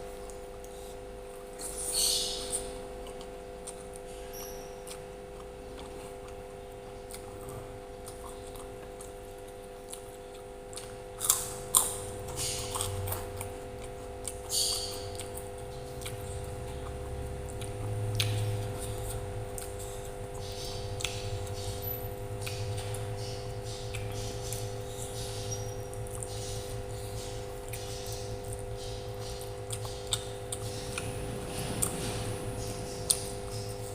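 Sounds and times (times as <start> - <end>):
electrical hum: 0.0 - 33.9
person chewing: 0.0 - 33.9.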